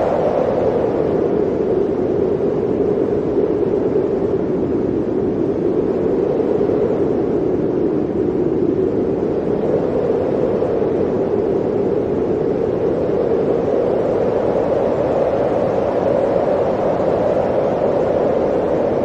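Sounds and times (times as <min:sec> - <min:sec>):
blizzard wind howling: 0:00.0 - 0:19.0.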